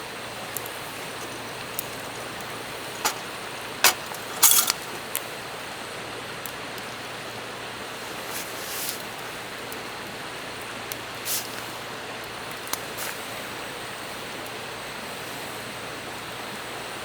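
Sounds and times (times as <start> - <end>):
campfire crackling and popping: 0.0 - 14.8.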